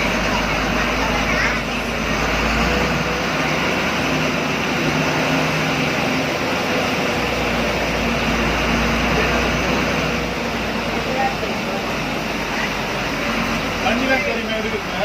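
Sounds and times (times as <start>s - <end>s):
bus engine humming: 0.0s - 15.0s
rush of moving vehicle: 0.0s - 15.0s.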